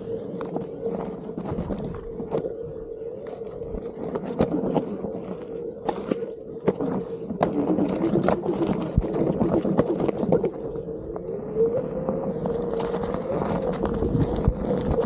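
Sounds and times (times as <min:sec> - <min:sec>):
tyre rolling over rough trail: 0:00.0 - 0:15.0.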